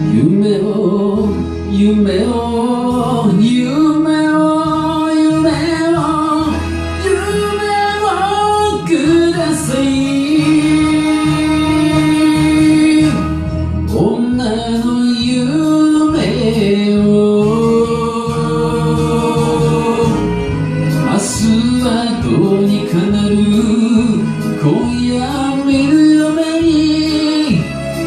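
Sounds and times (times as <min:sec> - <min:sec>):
karaoke backing track: 0:00.0 - 0:28.0
man singing long notes: 0:00.0 - 0:28.0.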